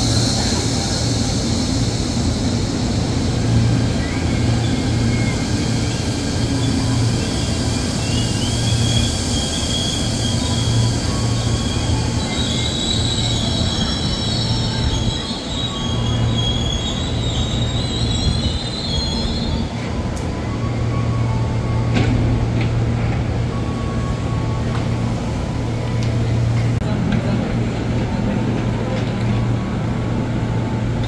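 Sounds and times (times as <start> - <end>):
train brakes squealing: 0.0 - 26.6
low train hum: 0.0 - 31.0.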